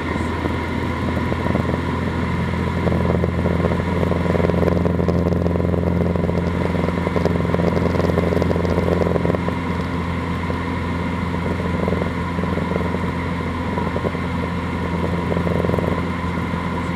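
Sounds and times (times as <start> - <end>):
plane engine and propeller drone: 0.0 - 16.9.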